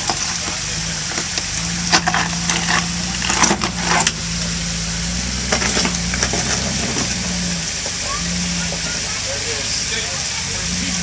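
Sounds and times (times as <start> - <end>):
engine running at low revs: 0.0 - 11.0
tyres crunching on stones: 0.0 - 11.0.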